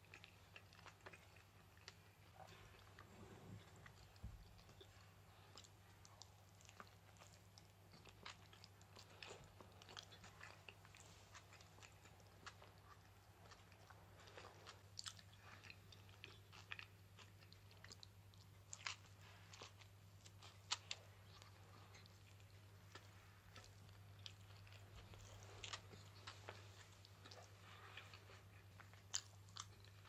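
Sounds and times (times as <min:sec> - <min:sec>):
soft chewing crackles: 0:00.0 - 0:30.0.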